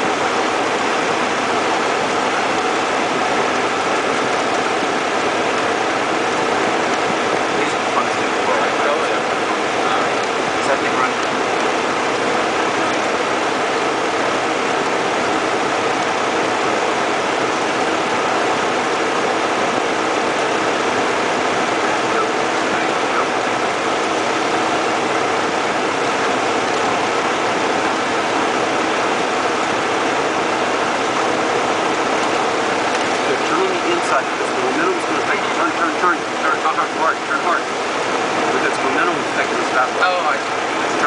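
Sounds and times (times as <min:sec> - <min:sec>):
propeller plane engine running: 0:00.0 - 0:41.0.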